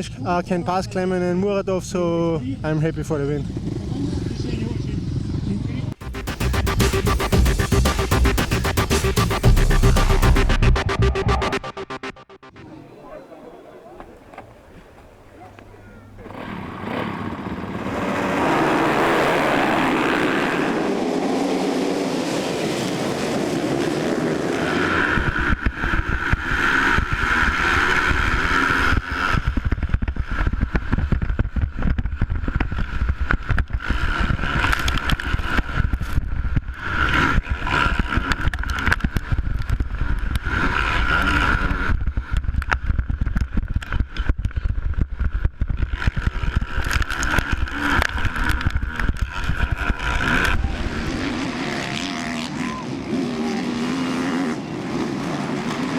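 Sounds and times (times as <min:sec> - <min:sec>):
motocross engines racing: 0:00.0 - 0:44.3, 0:45.7 - 0:55.9.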